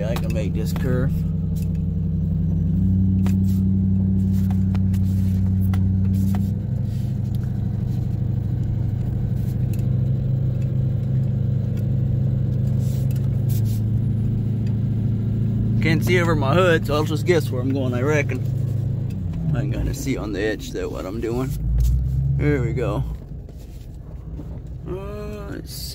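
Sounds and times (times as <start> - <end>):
truck engine running under load: 0.0 - 25.9.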